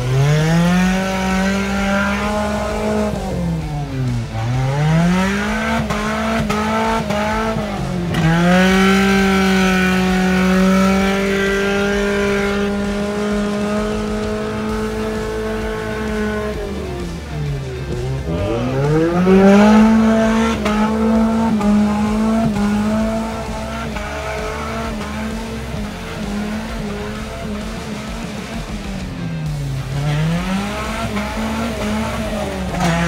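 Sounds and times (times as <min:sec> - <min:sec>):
engine revving hard: 0:00.0 - 0:33.0.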